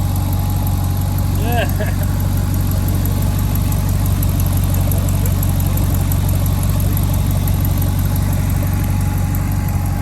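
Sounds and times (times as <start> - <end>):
car engine running steadily: 0.0 - 10.0.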